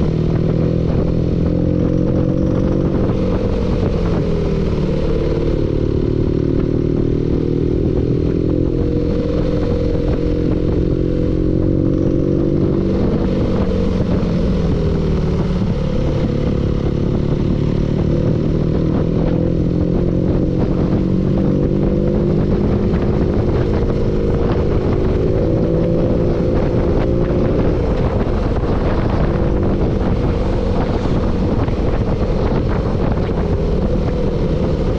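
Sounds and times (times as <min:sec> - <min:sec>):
engine running with knock: 0:00.0 - 0:34.9.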